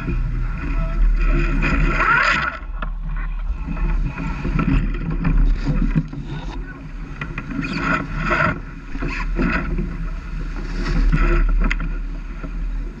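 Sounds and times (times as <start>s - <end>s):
low rumble: 0.0s - 13.0s
water rushing along boat hull: 0.0s - 13.0s.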